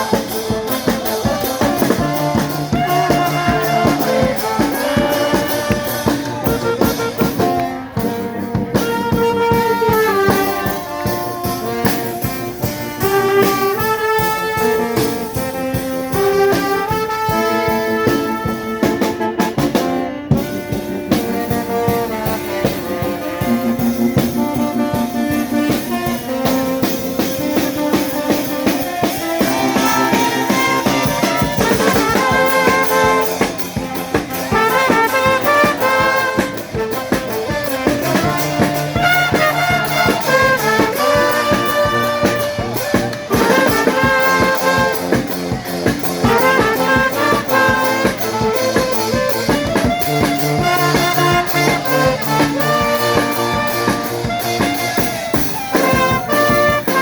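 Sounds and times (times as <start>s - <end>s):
brass and saxophones playing tune: 0.0s - 57.0s
drum beat: 0.0s - 57.0s.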